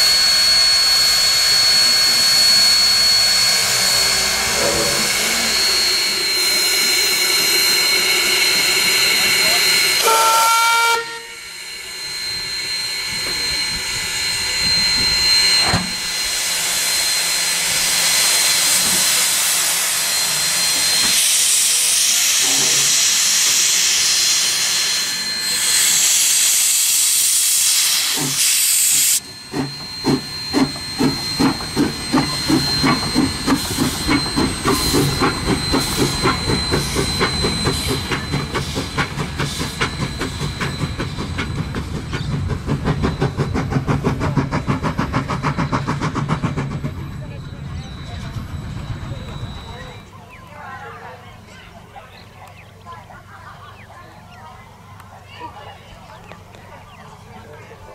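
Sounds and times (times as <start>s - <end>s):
steam locomotive exhaust chuffs: 0.0s - 50.6s
steam locomotive hissing steam: 0.0s - 57.9s.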